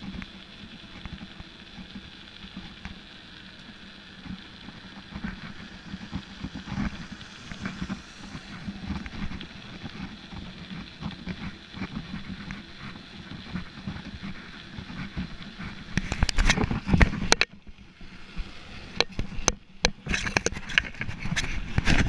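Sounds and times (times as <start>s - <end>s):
bicycle tyre and wind noise: 0.0s - 22.0s
bike rattling over rough pavement: 0.0s - 22.0s.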